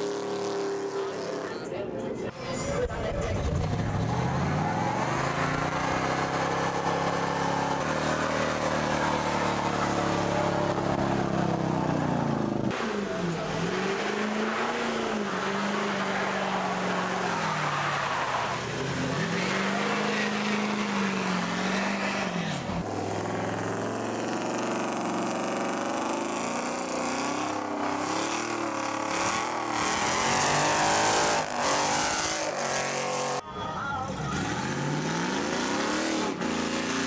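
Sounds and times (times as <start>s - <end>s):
truck engine revving hard: 0.0s - 1.6s, 3.4s - 33.4s, 34.1s - 37.0s.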